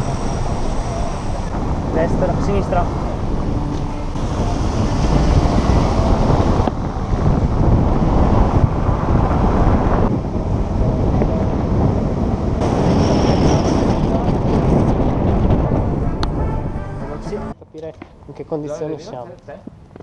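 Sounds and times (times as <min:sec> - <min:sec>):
road and engine rumble: 0:00.0 - 0:20.0
wind buffeting microphone: 0:00.0 - 0:20.0.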